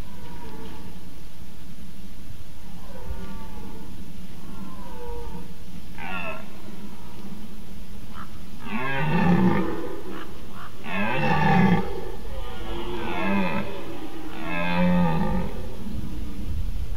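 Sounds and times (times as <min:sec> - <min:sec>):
deer stag roaring: 0:00.0 - 0:01.0, 0:02.7 - 0:16.5.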